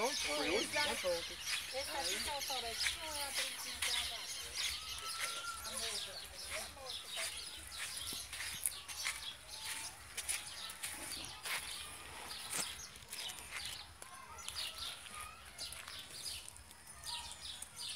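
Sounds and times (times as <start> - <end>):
faint outdoor background: 0.0 - 17.9
small birds chirping: 0.0 - 17.9.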